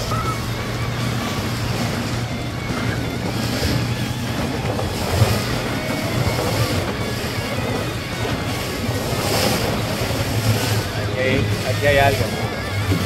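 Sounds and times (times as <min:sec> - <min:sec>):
small boat motor humming: 0:00.0 - 0:13.0
water washing against hull: 0:00.0 - 0:13.0
wind: 0:00.0 - 0:13.0.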